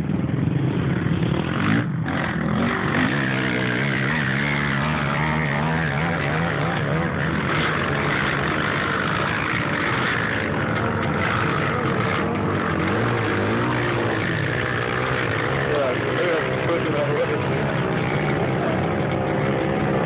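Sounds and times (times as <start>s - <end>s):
off-road vehicle engines revving: 0.0s - 20.0s.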